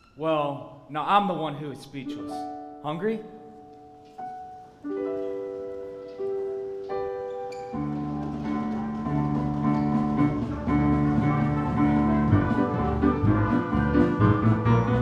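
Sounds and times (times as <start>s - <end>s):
held chords: 1.9s - 15.0s.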